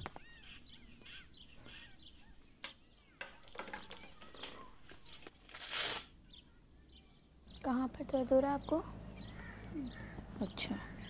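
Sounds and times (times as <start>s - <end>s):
faint small birds chirping: 0.0s - 11.0s.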